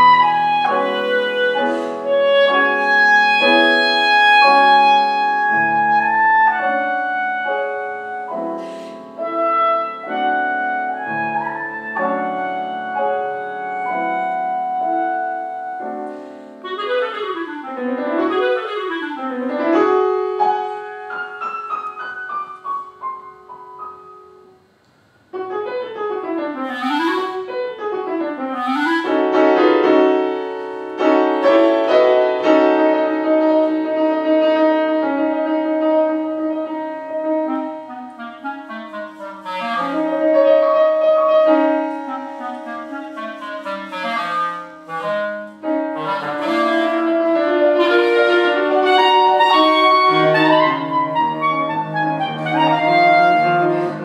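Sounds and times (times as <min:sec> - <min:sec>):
clarinet: 0:00.0 - 0:24.7, 0:25.3 - 0:54.0
grand piano: 0:00.0 - 0:54.0.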